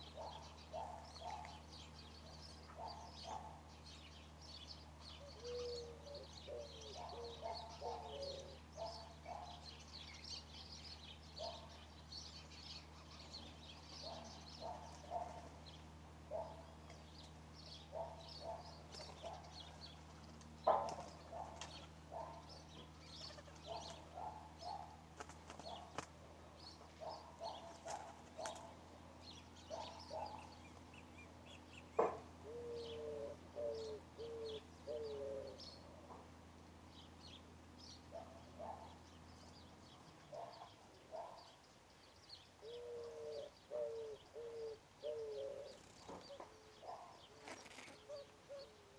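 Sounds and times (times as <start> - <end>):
lower repeated bird calls: 0.0 - 36.3, 36.9 - 48.9
birds chirping: 0.0 - 48.9.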